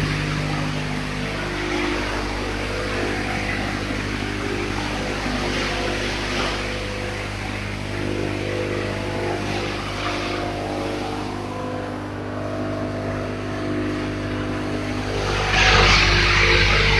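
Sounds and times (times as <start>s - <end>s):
chopper machine motor hum: 0.0s - 16.9s.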